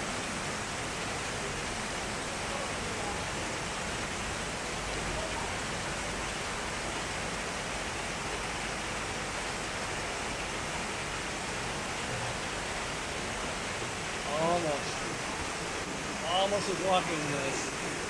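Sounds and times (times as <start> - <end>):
heavy rain on pavement: 0.0 - 18.0.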